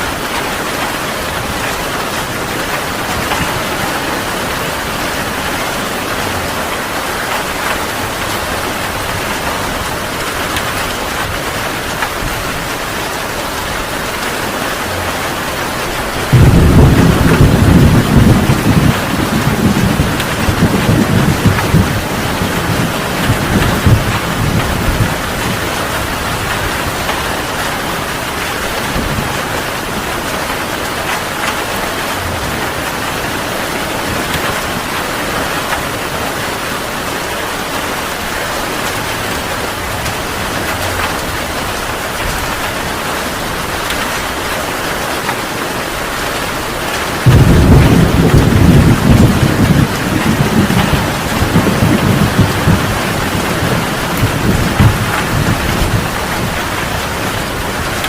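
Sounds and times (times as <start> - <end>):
heavy rain falling: 0.0 - 58.0
thunderclap rumbling: 0.7 - 37.0, 47.0 - 58.0.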